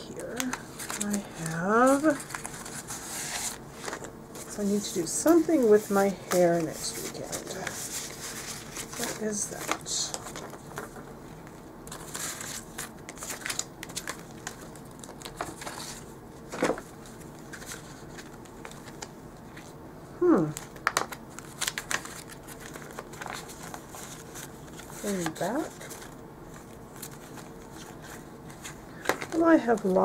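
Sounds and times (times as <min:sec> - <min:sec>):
plastic and paper pages rustling: 0:00.0 - 0:19.8, 0:20.5 - 0:30.0.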